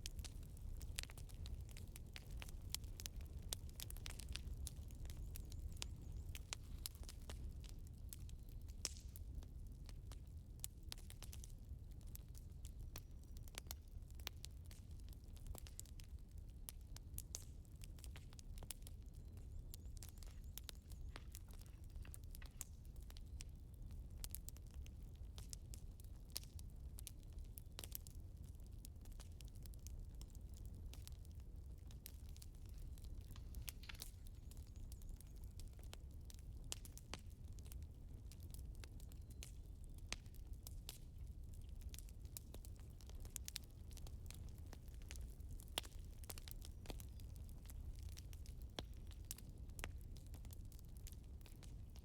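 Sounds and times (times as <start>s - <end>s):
firewood crackling and popping: 0.0s - 52.0s.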